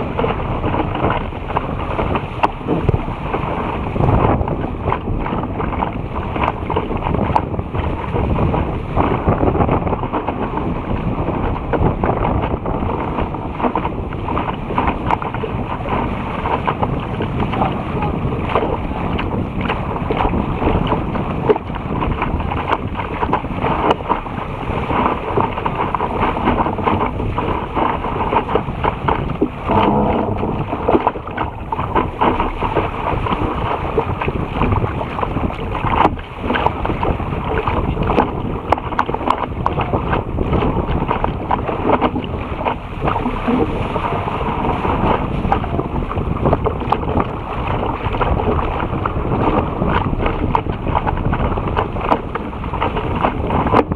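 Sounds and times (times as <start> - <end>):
spray slapping hull: 0.0 - 53.9
water rushing against boat bow: 0.0 - 53.9
wind buffeting microphone: 0.0 - 53.9.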